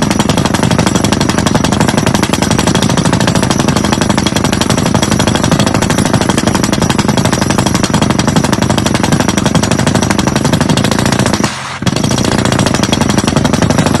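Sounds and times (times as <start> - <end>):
drill rig hammering: 0.0 - 14.0.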